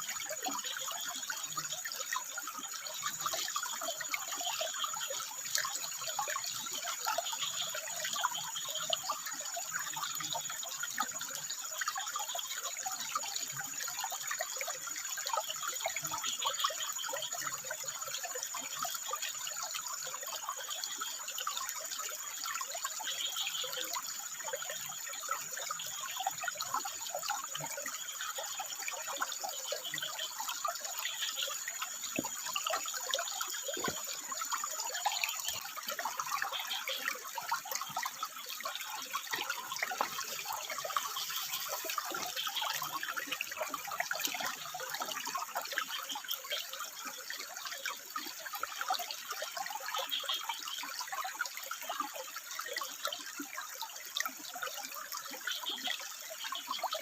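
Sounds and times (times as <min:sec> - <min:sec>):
water babbling over rocks: 0:00.0 - 0:57.0.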